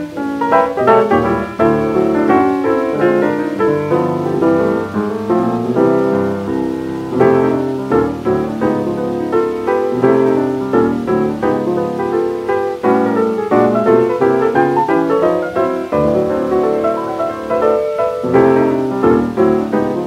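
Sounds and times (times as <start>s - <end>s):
solo jazz piano: 0.0s - 20.0s.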